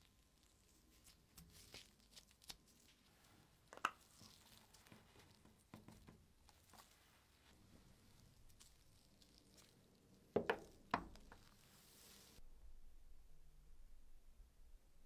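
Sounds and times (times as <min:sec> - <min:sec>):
soft handling rustles: 0:00.1 - 0:12.4.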